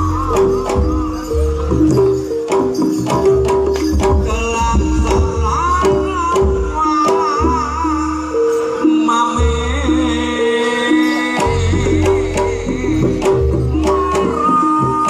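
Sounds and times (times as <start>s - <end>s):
hand drum strokes: 0.0s - 10.4s, 11.1s - 15.0s
wavering higher melody: 0.0s - 15.0s.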